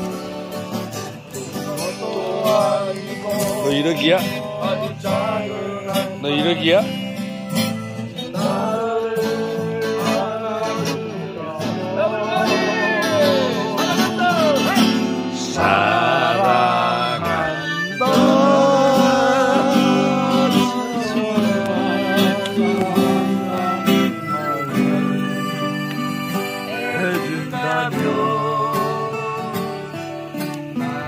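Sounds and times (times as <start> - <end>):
strummed acoustic guitar: 0.0 - 31.0.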